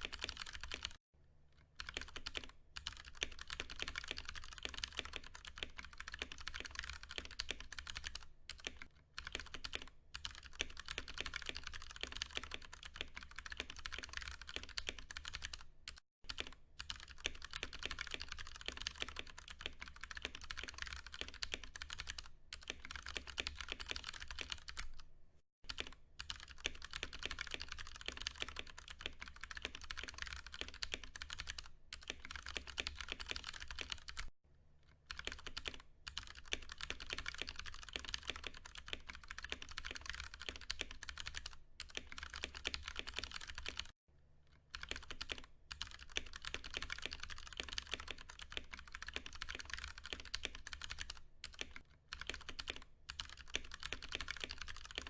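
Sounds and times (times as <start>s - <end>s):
mechanical keyboard typing: 0.0s - 1.0s, 1.8s - 25.0s, 25.7s - 34.3s, 35.0s - 44.0s, 44.6s - 55.0s.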